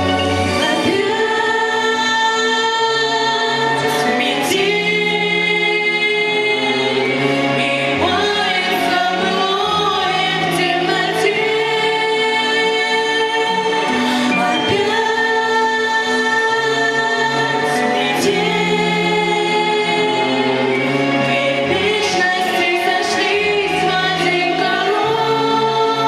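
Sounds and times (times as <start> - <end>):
choir singing held notes: 0.0 - 26.0
musical accompaniment: 0.0 - 26.0.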